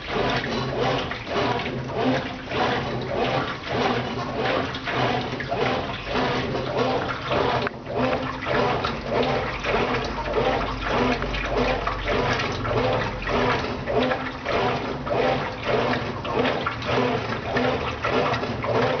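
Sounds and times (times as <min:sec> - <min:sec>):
washing machine motor hum: 0:00.0 - 0:19.0
water and clothes swishing: 0:00.0 - 0:19.0.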